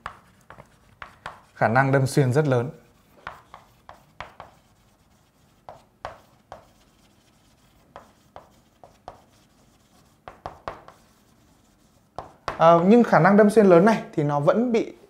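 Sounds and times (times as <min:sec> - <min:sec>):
chalk tapping and scraping on blackboard: 0:00.0 - 0:13.0.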